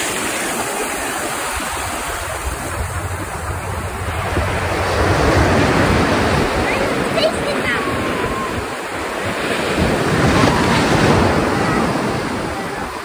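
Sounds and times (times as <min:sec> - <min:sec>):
ocean surf washing: 0:00.0 - 0:13.0
wind on microphone: 0:00.0 - 0:13.0.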